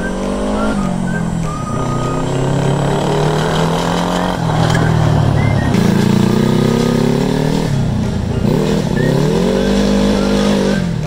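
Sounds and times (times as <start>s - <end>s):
trike engine revving: 0.0s - 11.0s.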